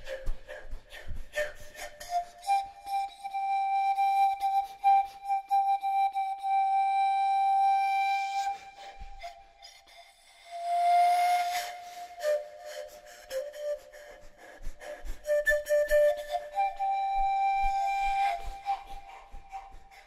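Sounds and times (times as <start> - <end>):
flute playing: 0.9 - 20.0.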